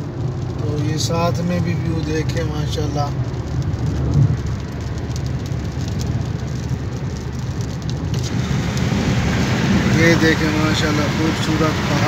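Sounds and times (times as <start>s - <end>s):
raindrops ticking on windscreen: 0.0s - 12.0s
road and wind rumble: 0.0s - 12.0s.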